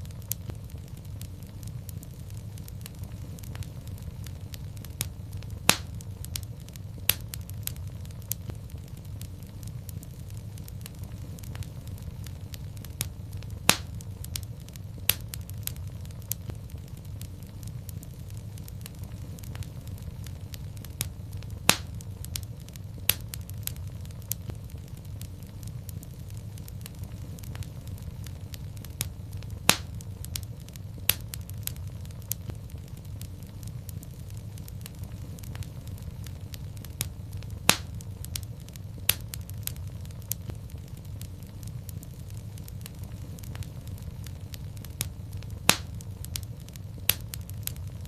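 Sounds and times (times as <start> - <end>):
fire crackling and popping: 0.0 - 48.0
fire flames rumbling: 0.0 - 48.0.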